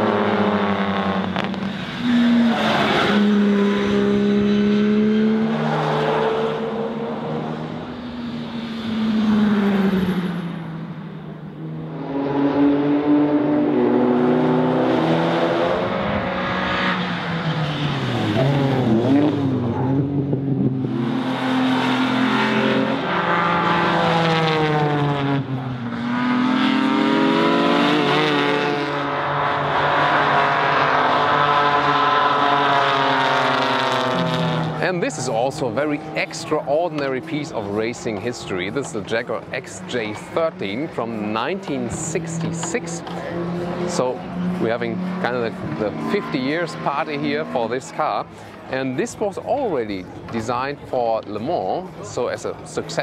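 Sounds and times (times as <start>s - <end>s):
racing car engines revving: 0.0s - 53.0s.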